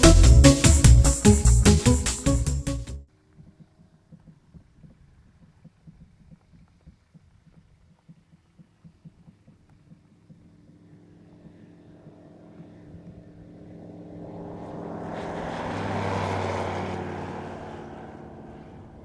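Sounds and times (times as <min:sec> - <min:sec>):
light aircraft engine and propeller: 0:03.1 - 0:19.0.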